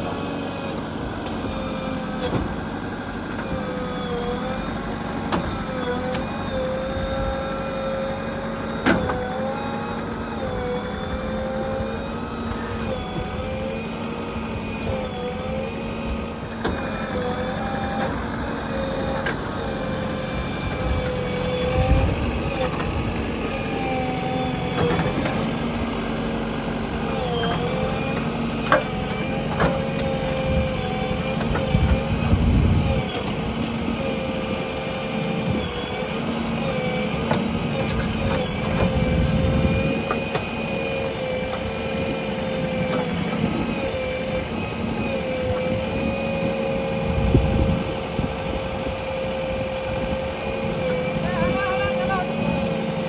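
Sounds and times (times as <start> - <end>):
backhoe diesel engine running: 0.0 - 53.0.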